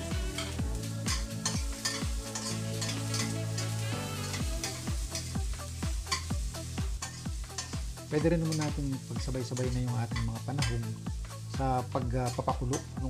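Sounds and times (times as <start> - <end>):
spatula scraping metal wok: 0.0 - 6.4, 7.0 - 11.5
background music with kick drum: 0.0 - 13.0
garlic sizzling in oil: 0.0 - 13.0.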